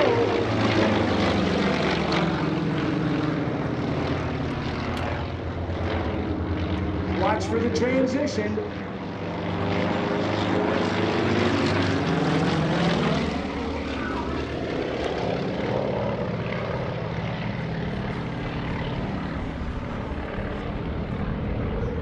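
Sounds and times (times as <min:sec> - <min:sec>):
propeller planes droning overhead: 0:00.0 - 0:22.0.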